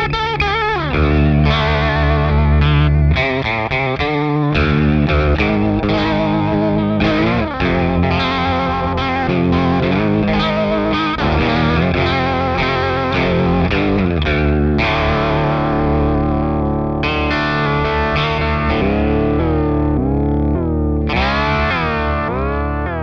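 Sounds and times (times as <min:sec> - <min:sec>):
electric guitar with vibrato: 0:00.0 - 0:23.0.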